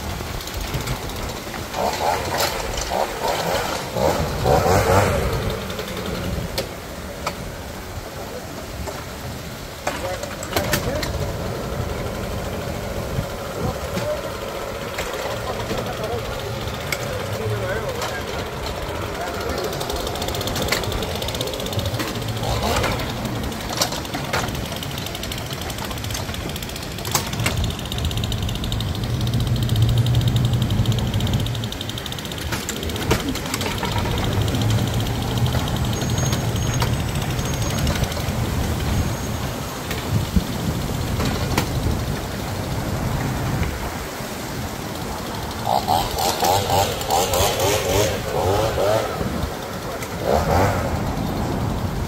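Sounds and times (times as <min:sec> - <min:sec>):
engine idling: 0:00.0 - 0:52.0
people talking: 0:07.9 - 0:29.5, 0:30.3 - 0:43.8, 0:45.0 - 0:52.0.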